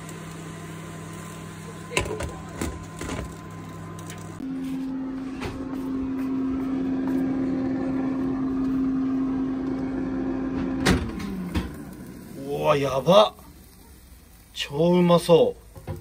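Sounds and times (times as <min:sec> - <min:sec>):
air fryer fan humming: 0:00.0 - 0:16.0
induction hob hum: 0:00.0 - 0:16.0.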